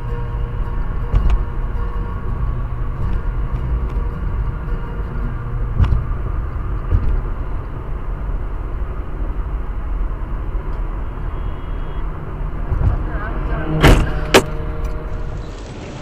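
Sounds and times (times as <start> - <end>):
road and engine noise: 0.0 - 16.0.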